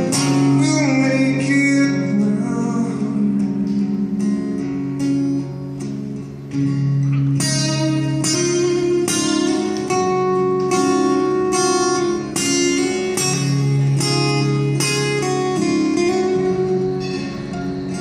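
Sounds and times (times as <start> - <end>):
acoustic guitar strummed chords: 0.0 - 18.0.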